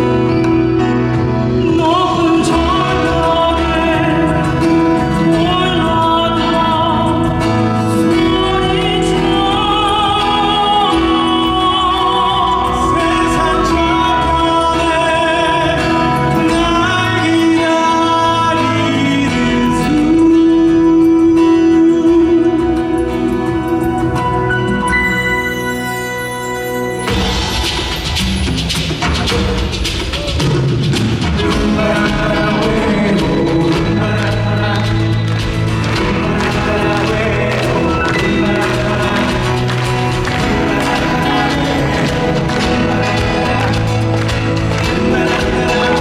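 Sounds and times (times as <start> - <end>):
instrumental accompaniment: 0.0 - 46.0
classical singing with vibrato: 1.5 - 25.6, 31.4 - 46.0.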